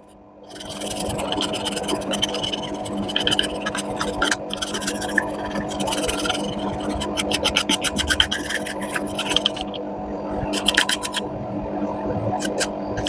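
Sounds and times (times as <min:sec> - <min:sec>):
scratchy scrubbing on circuit board: 0:00.0 - 0:09.8, 0:10.5 - 0:11.2, 0:12.3 - 0:13.0
steady hum: 0:00.0 - 0:13.0.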